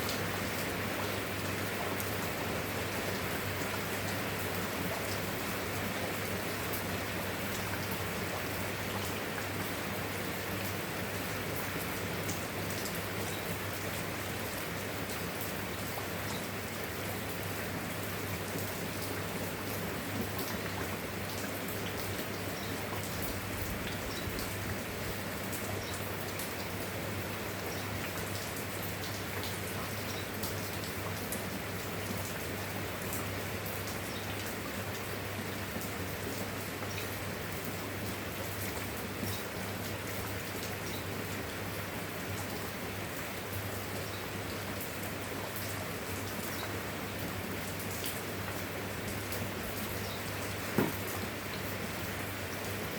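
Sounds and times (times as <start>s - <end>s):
rain drops pattering: 0.0s - 52.9s.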